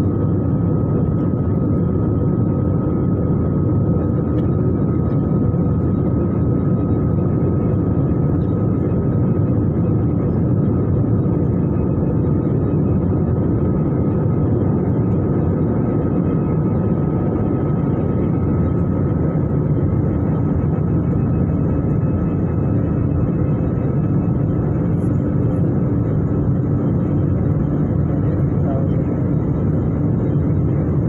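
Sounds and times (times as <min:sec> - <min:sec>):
engine and airflow rumble: 0:00.0 - 0:31.0.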